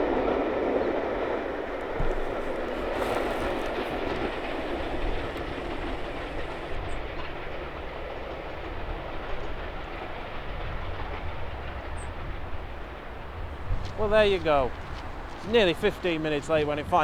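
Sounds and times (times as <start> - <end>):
train wheels running over rails: 0.0 - 17.0.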